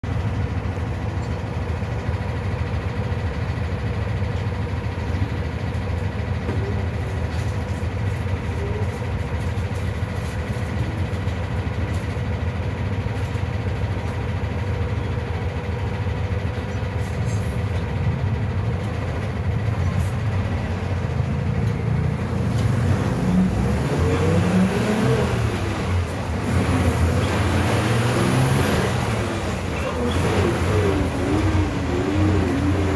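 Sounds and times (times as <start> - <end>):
bus engine running: 0.0 - 32.9.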